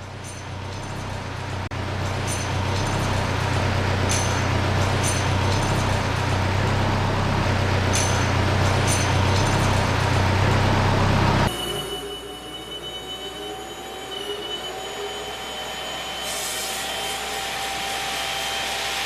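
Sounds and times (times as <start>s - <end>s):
sawmill machinery humming: 0.0s - 19.0s.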